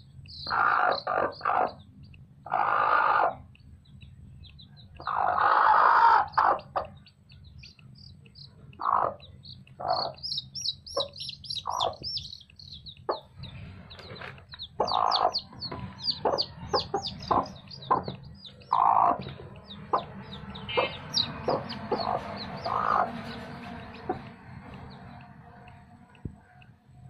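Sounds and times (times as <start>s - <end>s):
chicks peeping: 0.0s - 27.0s
hen clucking: 0.2s - 26.7s.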